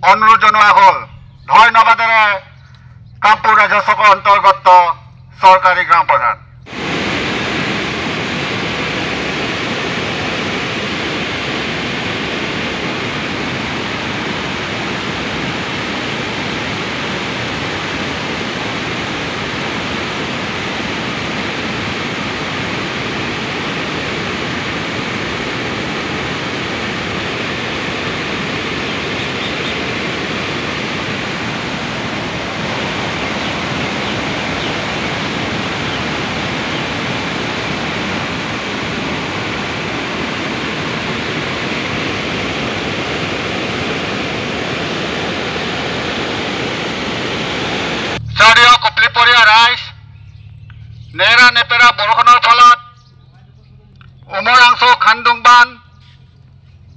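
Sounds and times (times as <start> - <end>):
water roaring through spillway: 3.3 - 49.8.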